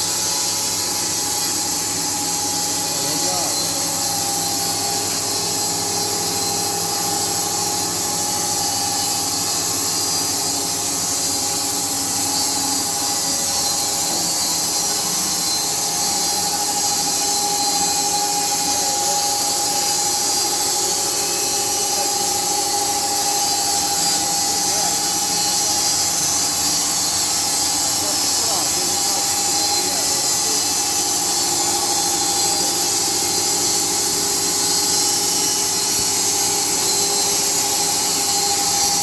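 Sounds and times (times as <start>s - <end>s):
sawmill cutting wood: 0.0s - 39.0s
steady high whine: 0.0s - 39.0s.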